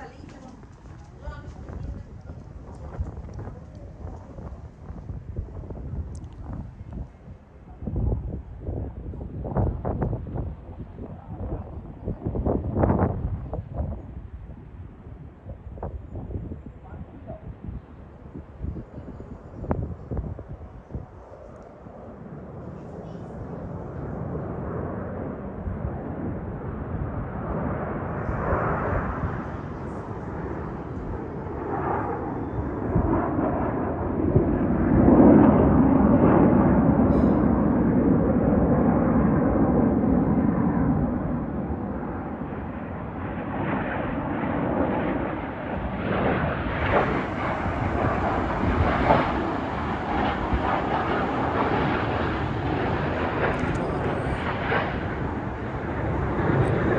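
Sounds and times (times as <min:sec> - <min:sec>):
jets passing overhead: 0:00.0 - 0:56.9.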